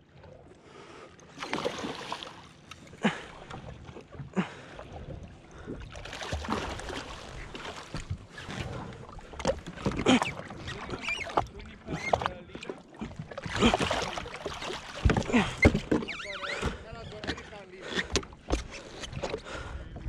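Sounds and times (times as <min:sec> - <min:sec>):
water splashing around fish: 0:01.3 - 0:19.6.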